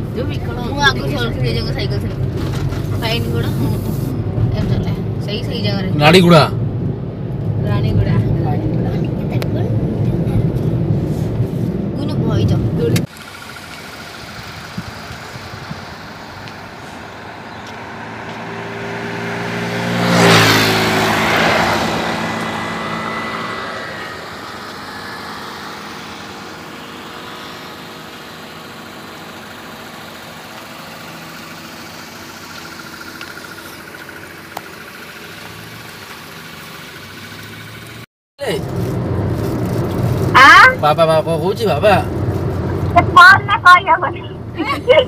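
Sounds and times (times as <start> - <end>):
road and engine rumble: 0.0 - 45.0
vehicle passing by: 0.0 - 45.0.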